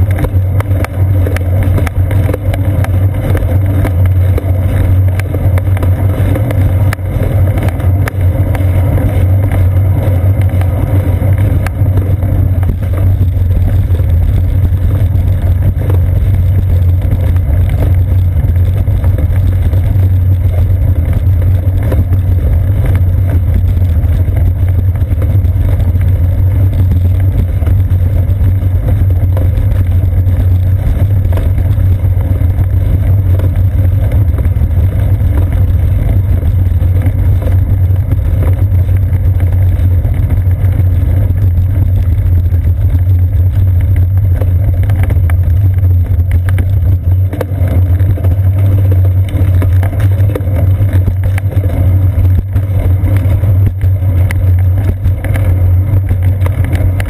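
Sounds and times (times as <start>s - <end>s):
bicycle road vibration rumble: 0.0s - 57.0s
wind on microphone: 0.0s - 57.0s.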